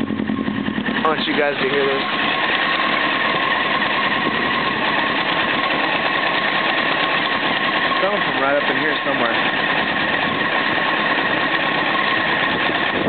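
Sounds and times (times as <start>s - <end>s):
fast mechanical knocking in engine: 0.0s - 13.0s
motorcycle engine idling: 0.0s - 13.0s.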